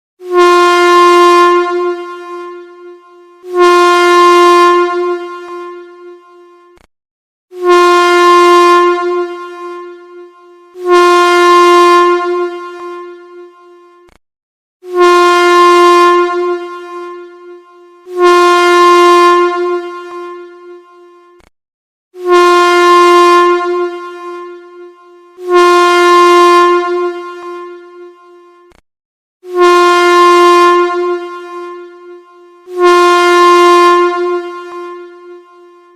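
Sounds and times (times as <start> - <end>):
train air horn blasts: 0.2 - 6.8, 7.5 - 14.1, 14.8 - 21.4, 22.2 - 28.7, 29.4 - 35.9.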